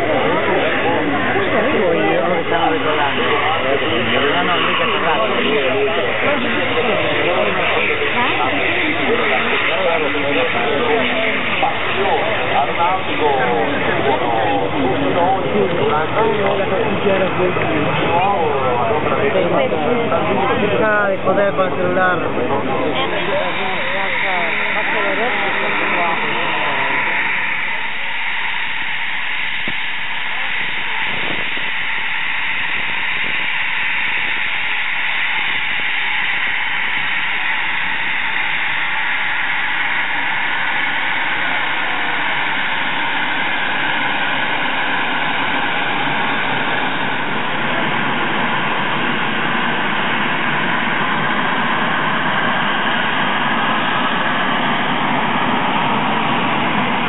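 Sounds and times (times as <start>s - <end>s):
jet engines hissing and whining: 0.0s - 57.0s.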